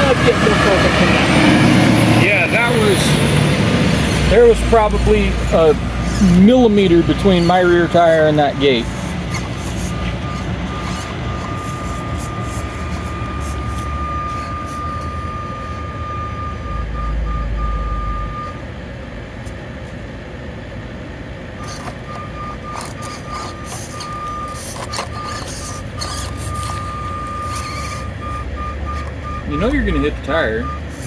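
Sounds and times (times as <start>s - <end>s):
tires knocking on rocks: 0.0s - 15.9s, 21.6s - 31.0s
high electric motor whine: 0.0s - 31.0s.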